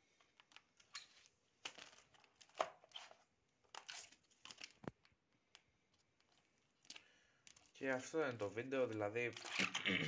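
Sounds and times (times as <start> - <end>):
wax comb rustling and crackling: 0.0 - 9.8.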